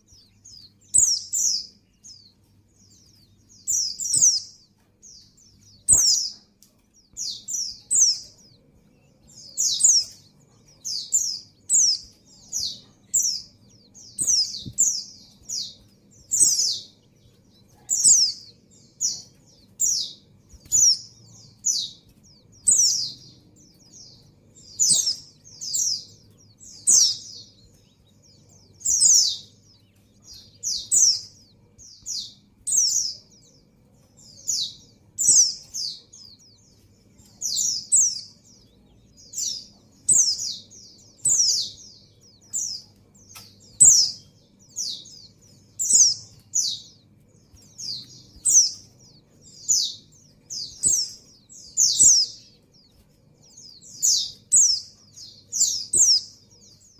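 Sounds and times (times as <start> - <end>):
bird calling: 2.9 - 56.9.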